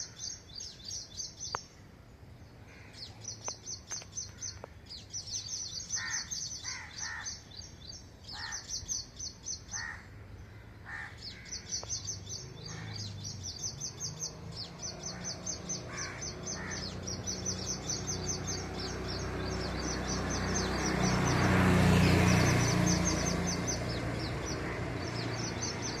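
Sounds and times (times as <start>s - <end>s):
harsh lower bird calls: 0.0s - 26.0s
small birds chirping: 0.0s - 26.0s.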